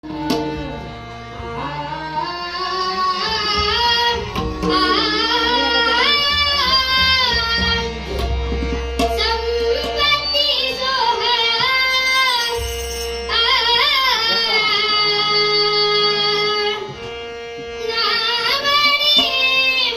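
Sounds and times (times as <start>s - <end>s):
person singing devotional song: 0.0s - 8.4s, 9.2s - 17.0s
steady drone: 0.0s - 19.9s
tabla drumming: 0.0s - 19.9s.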